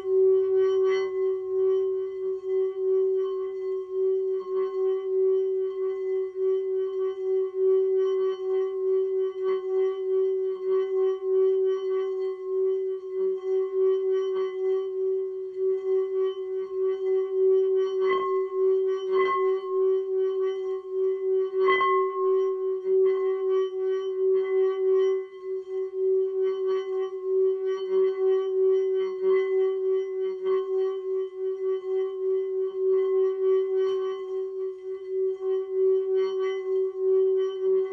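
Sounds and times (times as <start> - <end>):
singing bowl ringing tone: 0.0 - 37.9.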